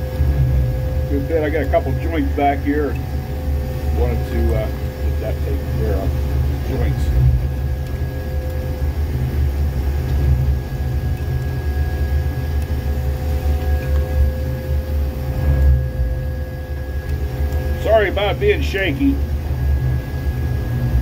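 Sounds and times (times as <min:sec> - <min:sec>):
diesel engine rumbling: 0:00.0 - 0:21.0
steady machine whine: 0:00.0 - 0:21.0.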